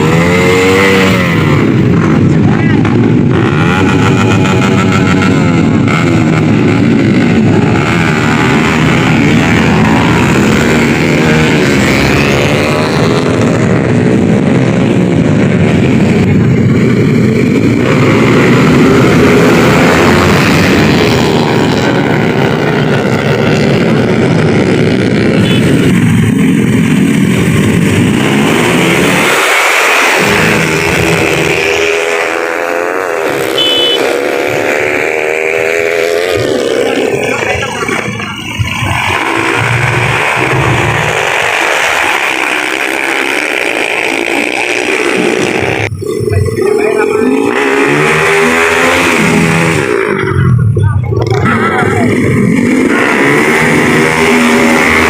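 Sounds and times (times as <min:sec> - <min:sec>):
small motorcycle engines revving: 0:00.0 - 0:55.0.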